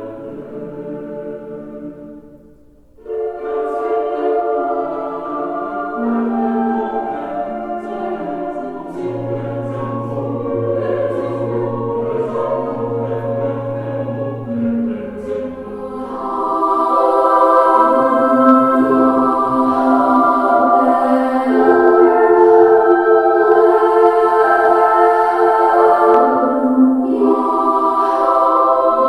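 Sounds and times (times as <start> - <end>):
choir singing in harmony: 0.0 - 29.0.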